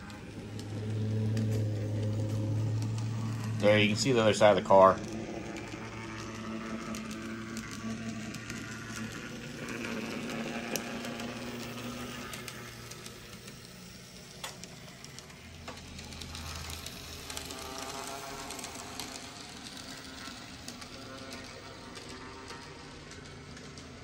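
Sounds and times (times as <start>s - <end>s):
model train motor humming: 0.0s - 24.0s
wheels clicking over rails: 0.0s - 24.0s.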